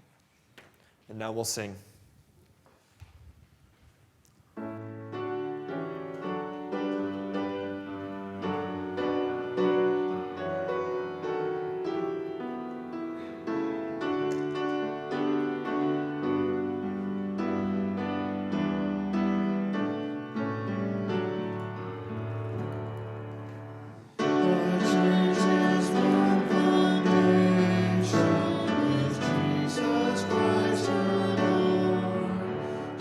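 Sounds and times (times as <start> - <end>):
piano playing slow chords: 4.6 - 33.0.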